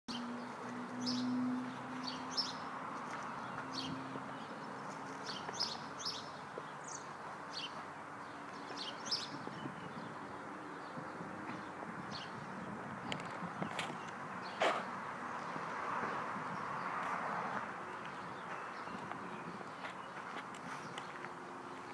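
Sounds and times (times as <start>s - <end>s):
small birds chirping: 0.1s - 21.9s.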